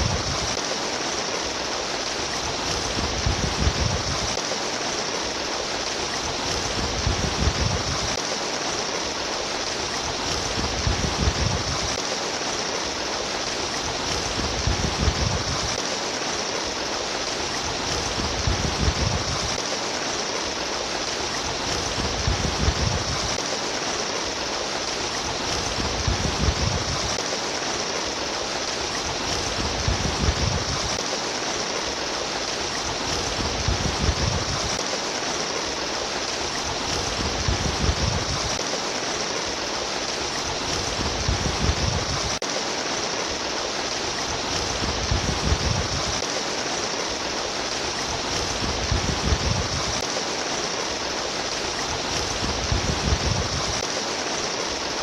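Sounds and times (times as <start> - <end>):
water trickling and babbling: 0.0 - 55.0.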